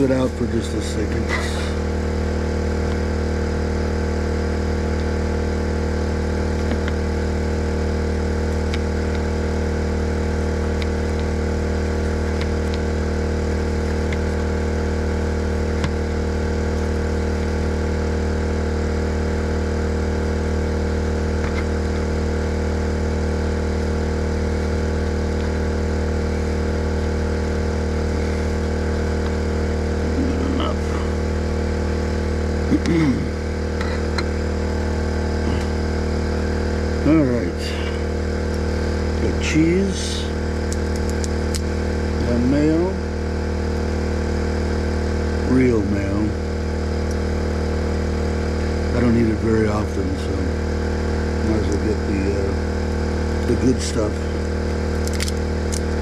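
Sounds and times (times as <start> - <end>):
portable generator running: 0.0 - 56.0.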